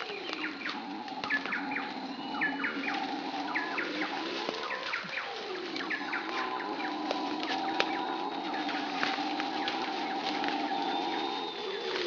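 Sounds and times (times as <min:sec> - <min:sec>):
birds chirping: 0:00.0 - 0:12.0
howler monkeys roaring: 0:00.0 - 0:12.0.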